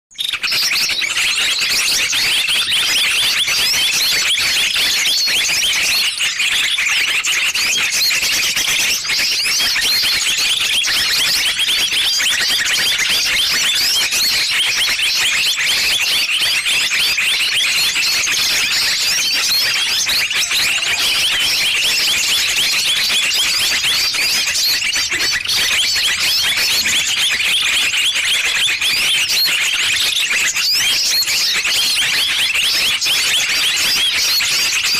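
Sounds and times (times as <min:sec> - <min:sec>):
songbirds chirping: 0:00.2 - 0:33.2.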